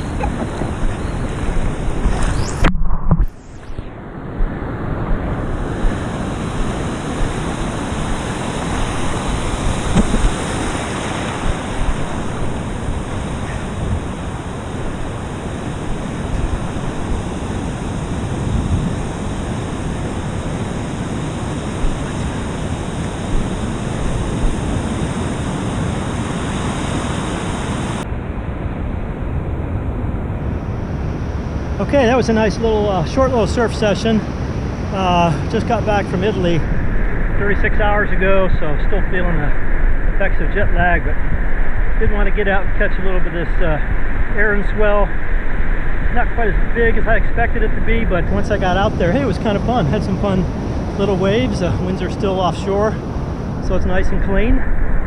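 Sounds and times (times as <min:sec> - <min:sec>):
ocean surf washing: 0:00.0 - 0:55.0
wind noise: 0:00.0 - 0:55.0.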